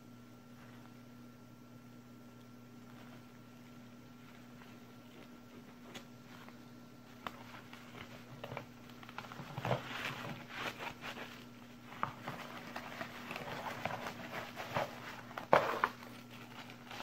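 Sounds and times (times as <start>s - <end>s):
faint steady hum: 0.0s - 17.0s
bubble wrap rustling and crinkling: 2.7s - 17.0s.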